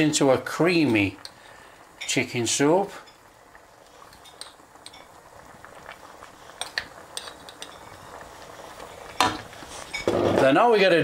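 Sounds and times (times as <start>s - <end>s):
pot of stock simmering: 0.0s - 11.0s.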